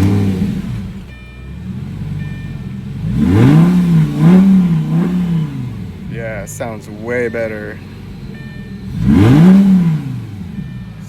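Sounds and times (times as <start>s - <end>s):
sports car engine idling and revving: 0.0s - 11.0s.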